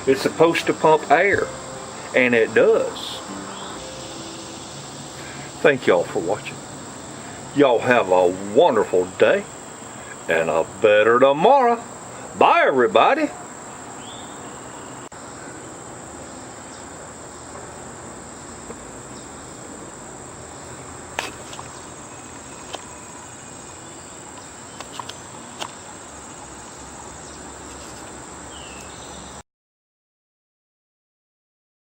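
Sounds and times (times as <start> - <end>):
insects trilling: 0.0 - 29.4
low background hiss: 0.0 - 29.4.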